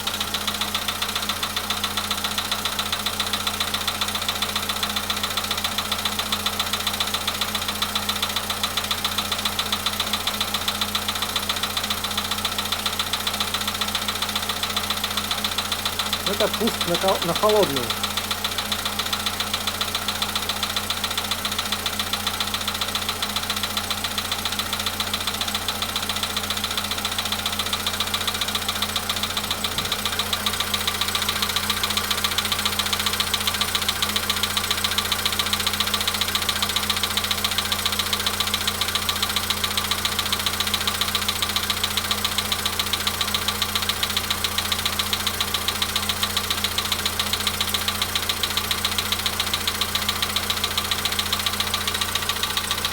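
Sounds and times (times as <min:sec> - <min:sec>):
car engine idling with knock: 0:00.1 - 0:52.9.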